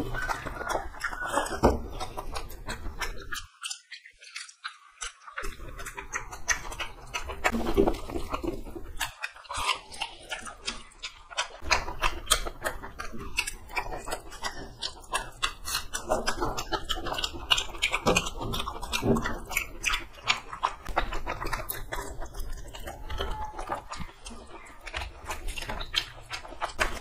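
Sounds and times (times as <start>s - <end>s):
wet chewing and lip-smacking: 0.0s - 27.0s.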